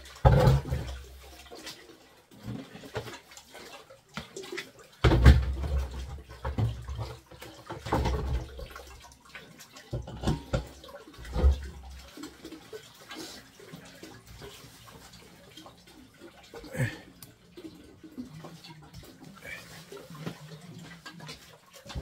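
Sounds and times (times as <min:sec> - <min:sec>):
water splashing and gurgling: 0:00.0 - 0:22.0.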